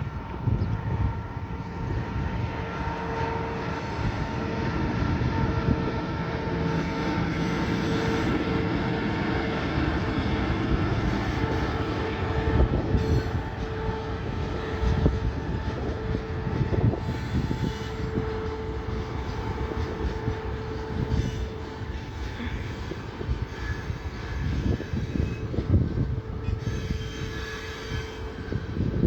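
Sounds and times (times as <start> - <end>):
constant whine: 0.0 - 29.0
train rumbling past: 0.0 - 29.0.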